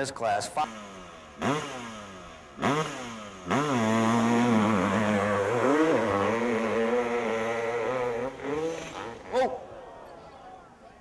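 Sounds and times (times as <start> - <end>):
motorcycle engine revving: 0.5 - 9.7.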